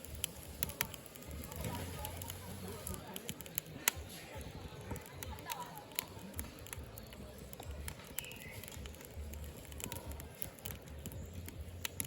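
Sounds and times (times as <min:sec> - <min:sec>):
firewood crackling and popping: 0:00.0 - 0:12.0.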